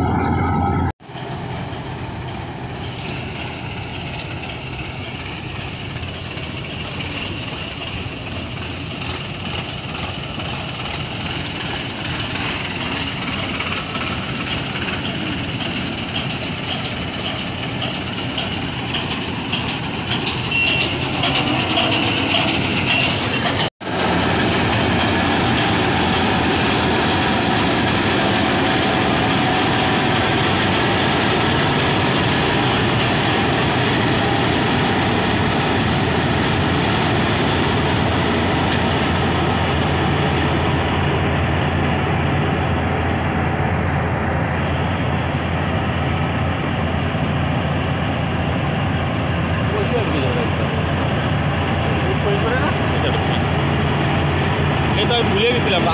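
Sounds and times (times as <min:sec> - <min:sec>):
combine harvester droning: 0:00.0 - 0:55.9.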